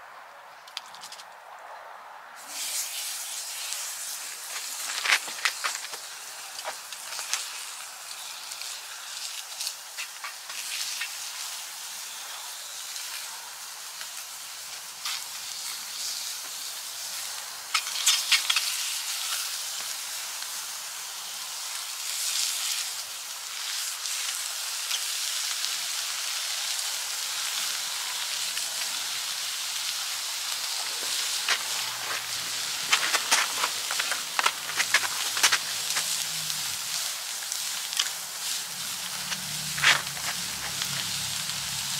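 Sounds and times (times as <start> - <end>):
crackles of fat and burning wood: 2.4 - 41.9
steak sizzling in skillets: 2.4 - 41.9.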